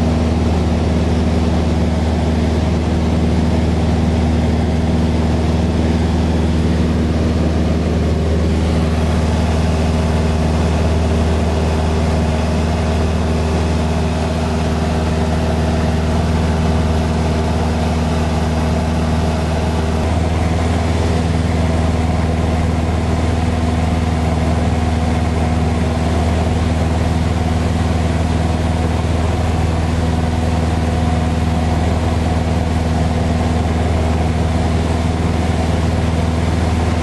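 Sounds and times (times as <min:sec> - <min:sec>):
light aircraft engine droning: 0:00.0 - 0:37.0.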